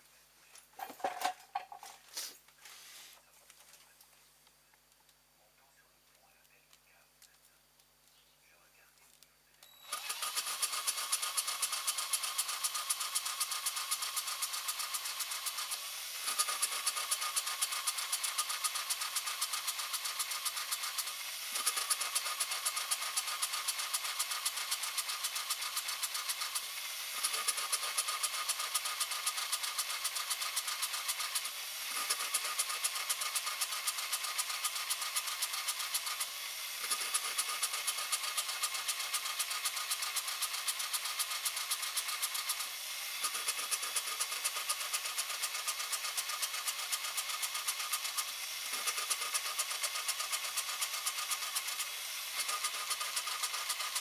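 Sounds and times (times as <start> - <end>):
engine running with fast ticking: 9.9 - 54.0.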